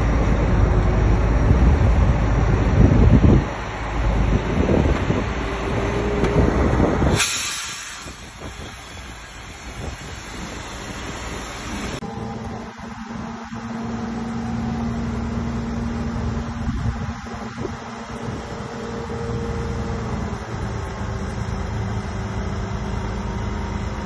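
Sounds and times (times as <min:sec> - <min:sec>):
heavy machinery diesel engines rumbling: 0:00.0 - 0:24.0.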